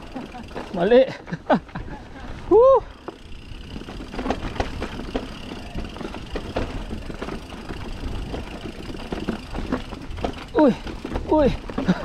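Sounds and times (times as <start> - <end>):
bike rattling over rocks: 0.0 - 12.0.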